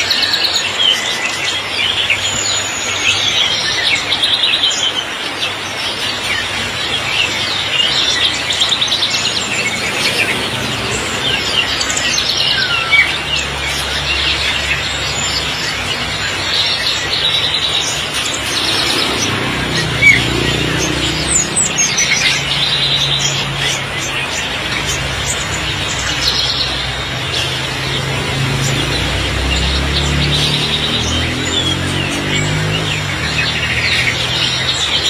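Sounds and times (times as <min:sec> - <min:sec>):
songbirds chirping and trilling: 0:00.0 - 0:35.0.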